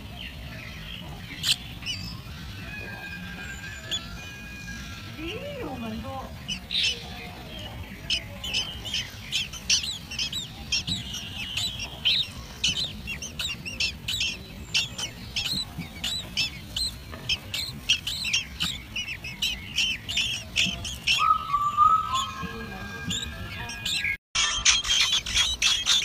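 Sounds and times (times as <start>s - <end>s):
nestlings chirping: 0.0s - 26.0s.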